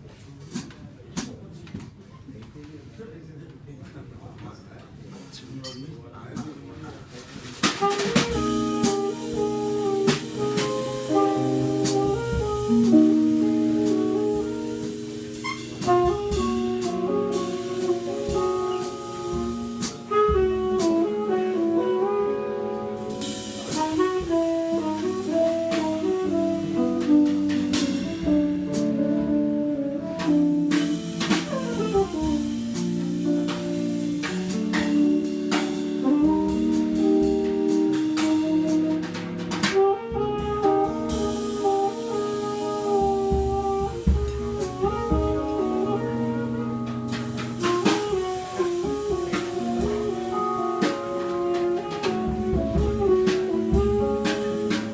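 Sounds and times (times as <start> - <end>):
drum kit with cymbals: 0.0 - 1.5, 5.0 - 54.9
tenor saxophone melody: 7.8 - 54.9.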